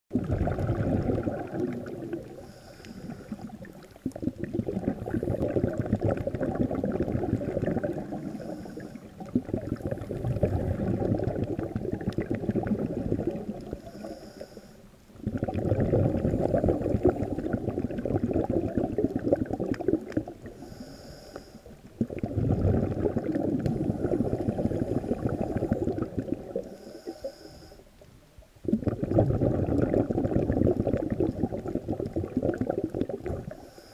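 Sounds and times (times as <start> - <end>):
muffled underwater bubbling: 0.1 - 33.9.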